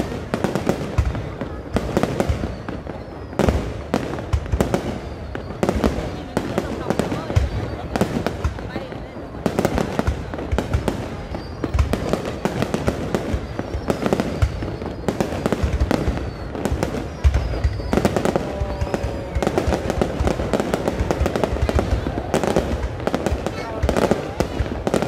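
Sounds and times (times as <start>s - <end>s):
falling firework whistles: 0.0s - 8.2s, 9.8s - 25.0s
fireworks bangs and crackling: 0.0s - 25.0s.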